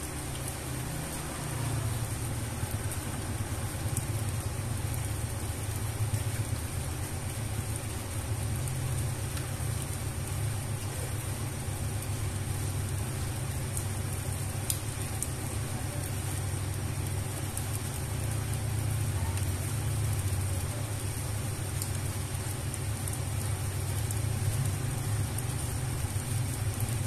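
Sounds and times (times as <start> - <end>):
rain on wet concrete: 0.0 - 27.0.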